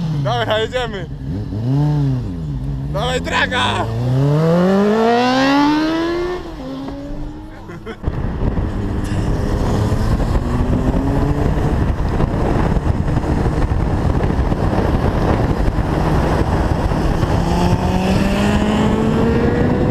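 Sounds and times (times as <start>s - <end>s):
engine accelerating: 0.0s - 19.9s
wind and road rush: 0.0s - 19.9s.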